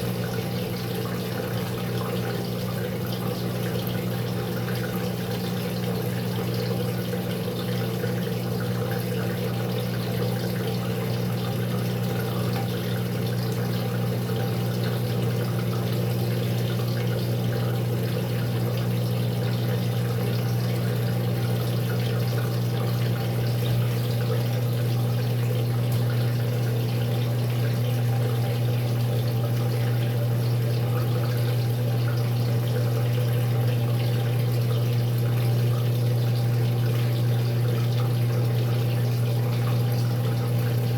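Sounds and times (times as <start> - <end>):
low electrical hum: 0.0 - 40.9
water rushing in washer: 0.0 - 40.9.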